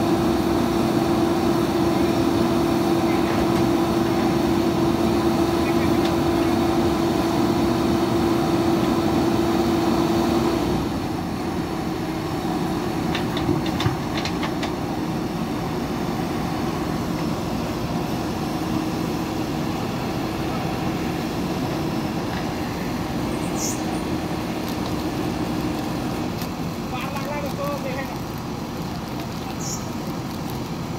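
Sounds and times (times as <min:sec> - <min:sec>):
diesel engines droning: 0:00.0 - 0:30.9.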